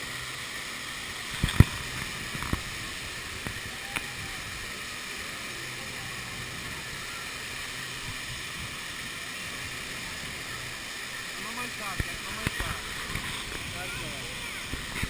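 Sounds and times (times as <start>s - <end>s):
fountain water jets hissing: 0.0s - 15.0s.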